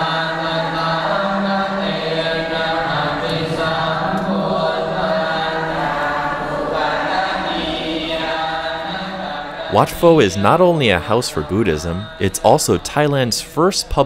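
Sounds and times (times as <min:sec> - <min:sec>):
monks chanting in monotone: 0:00.0 - 0:14.0.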